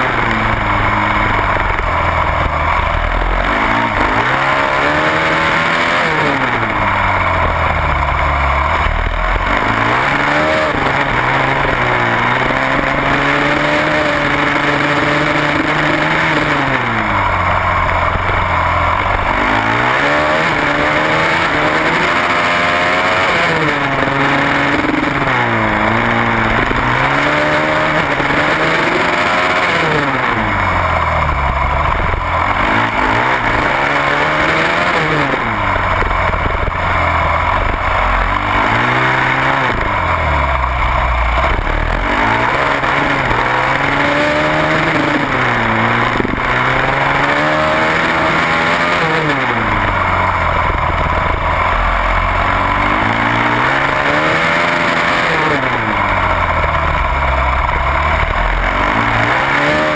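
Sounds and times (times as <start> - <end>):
motorcycle engine revving: 0.0 - 59.9
steady rushing noise: 0.0 - 59.9.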